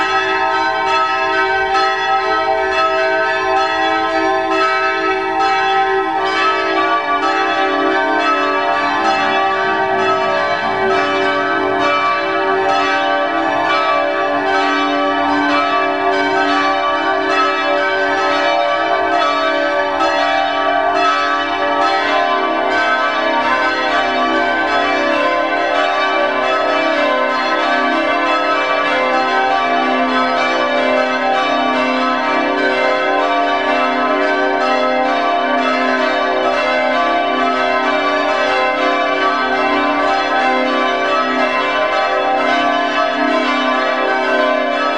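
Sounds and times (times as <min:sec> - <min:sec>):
church bell ringing: 0:00.0 - 0:44.9.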